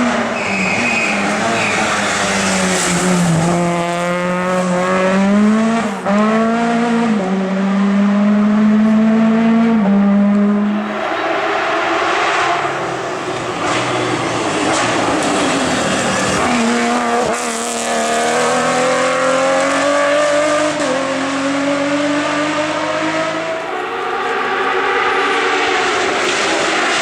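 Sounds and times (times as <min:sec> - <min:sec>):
race car engine at full throttle: 0:00.0 - 0:27.0.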